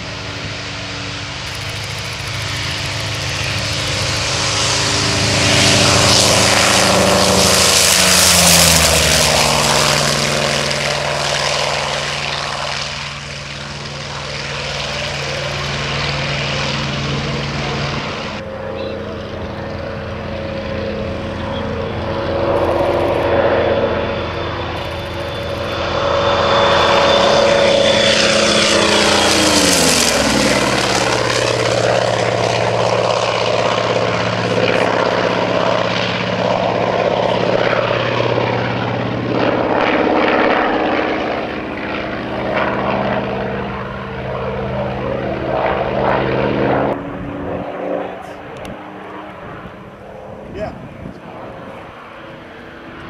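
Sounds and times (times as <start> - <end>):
propeller plane flyby: 0.0 - 53.0.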